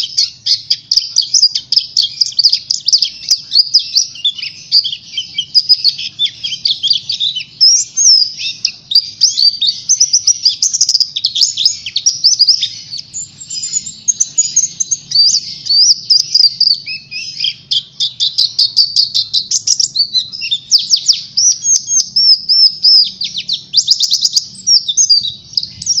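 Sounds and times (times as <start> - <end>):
bird twittering song: 0.0 - 26.0.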